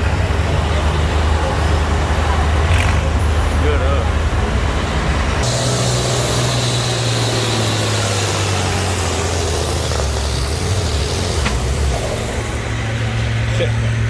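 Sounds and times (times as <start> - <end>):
tractor engine under load: 0.0 - 14.0.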